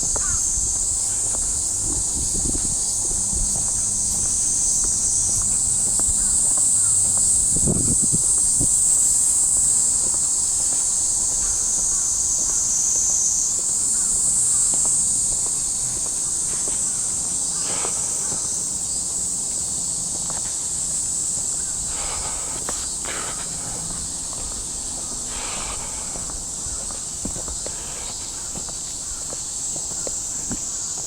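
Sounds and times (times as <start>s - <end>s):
footsteps on pavement: 0.0s - 12.8s, 13.4s - 31.0s
cicadas droning: 0.0s - 31.0s.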